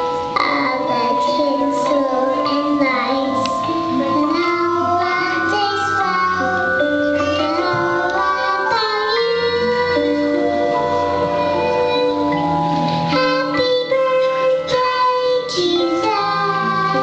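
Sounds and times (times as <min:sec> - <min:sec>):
girl singing into microphone: 0:00.0 - 0:17.0
instrumental accompaniment: 0:00.0 - 0:17.0.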